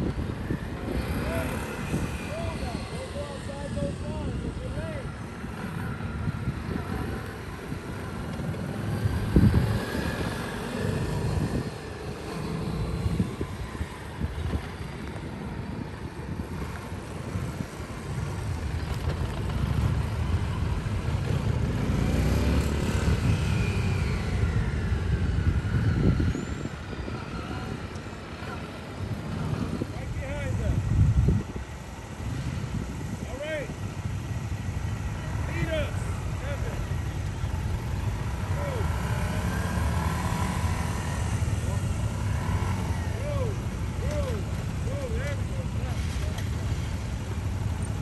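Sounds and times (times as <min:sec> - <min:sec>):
small motorcycle engines revving: 0:00.0 - 0:48.0.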